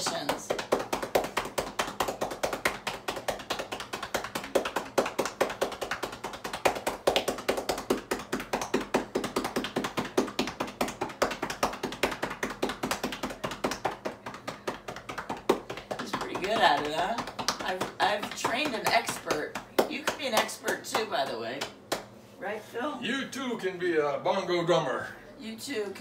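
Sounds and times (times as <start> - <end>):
cupped hands clapping on a back: 0.0 - 22.2.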